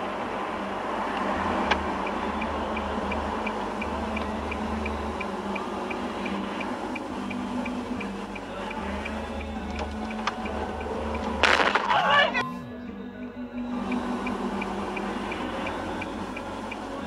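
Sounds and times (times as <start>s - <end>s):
turn signal ticking: 0.0s - 12.4s, 13.2s - 17.0s
engine and road noise: 0.0s - 17.0s.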